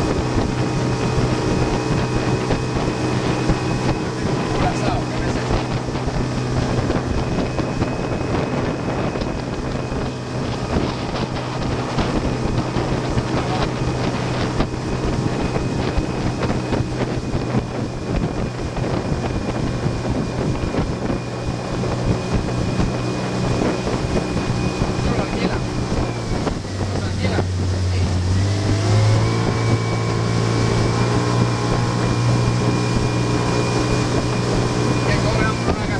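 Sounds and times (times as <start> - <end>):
motorboat engine humming: 0.0 - 35.9
water rushing past hull: 0.0 - 35.9
wind buffeting microphone: 0.0 - 35.9.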